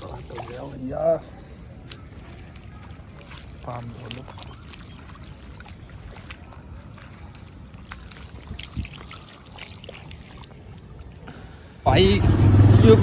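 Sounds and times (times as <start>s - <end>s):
hose water splashing on concrete: 0.0s - 1.0s, 1.8s - 11.3s.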